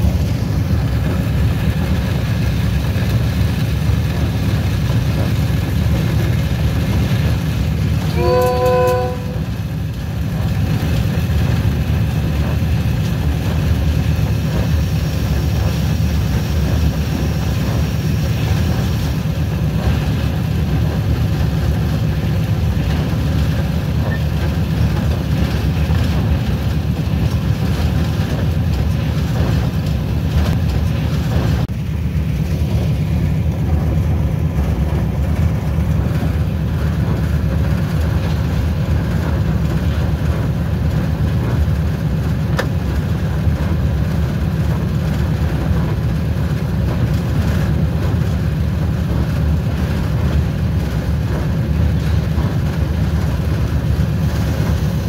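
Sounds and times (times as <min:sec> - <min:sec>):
locomotive diesel engine rumble: 0:00.0 - 0:55.0
train running hiss: 0:00.0 - 0:55.0.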